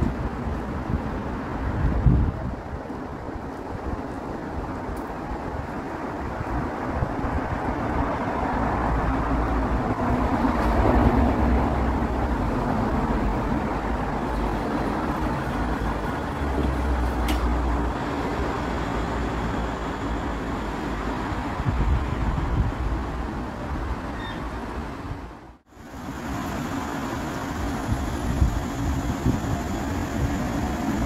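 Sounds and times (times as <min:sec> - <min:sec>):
light-rail train rumbling: 0:00.0 - 0:31.0
road traffic hum: 0:00.0 - 0:31.0.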